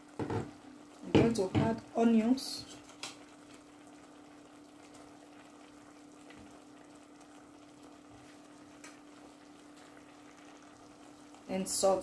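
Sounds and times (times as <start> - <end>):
beef sizzling in a pot: 0.0 - 12.0.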